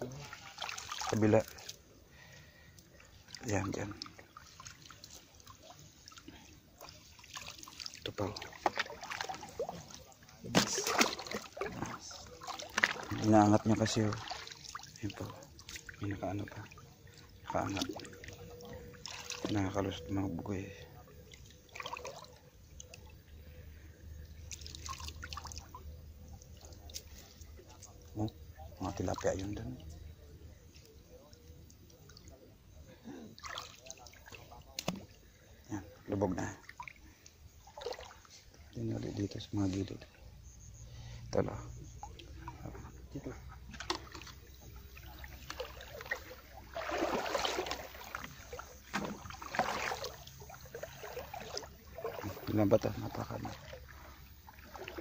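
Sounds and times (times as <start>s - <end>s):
shallow water splashing: 0.0s - 55.0s.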